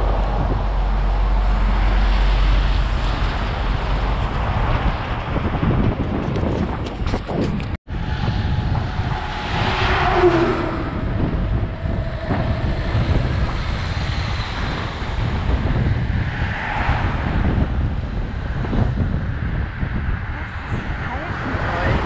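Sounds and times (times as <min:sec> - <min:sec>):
cars passing: 0:00.0 - 0:07.0, 0:07.6 - 0:22.0
wind rumbling on microphone: 0:00.0 - 0:22.0.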